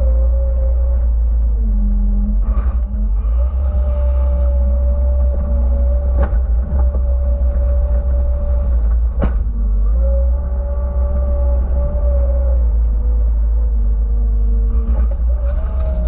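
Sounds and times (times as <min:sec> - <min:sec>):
skid steer engine running: 0:00.0 - 0:16.0
steady whine: 0:00.0 - 0:16.0.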